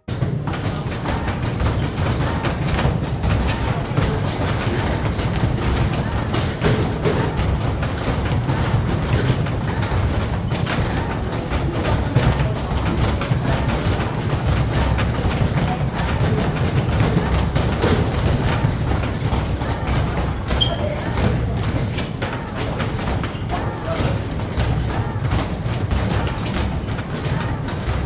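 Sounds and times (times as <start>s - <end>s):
balls knocking on backboard and rim: 0.0s - 28.0s.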